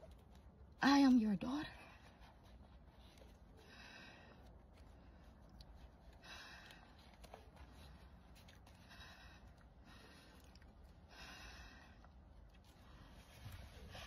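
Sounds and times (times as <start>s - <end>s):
faint breaths: 1.7s - 14.0s.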